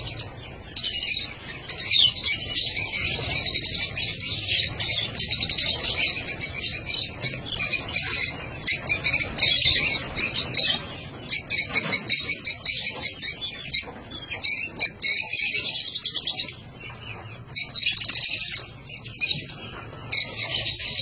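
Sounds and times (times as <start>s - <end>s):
lovebirds chirping and chattering: 0.0s - 21.0s.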